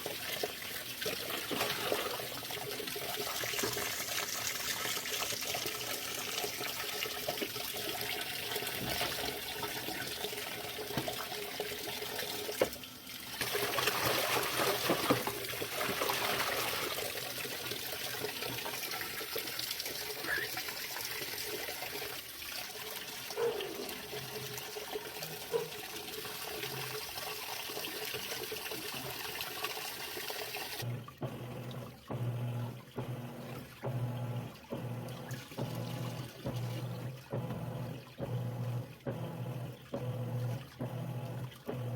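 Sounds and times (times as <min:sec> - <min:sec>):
water splashing and trickling: 0:00.0 - 0:41.9.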